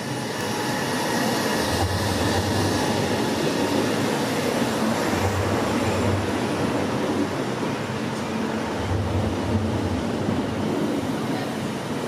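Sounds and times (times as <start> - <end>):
train rolling past: 0.0 - 12.0.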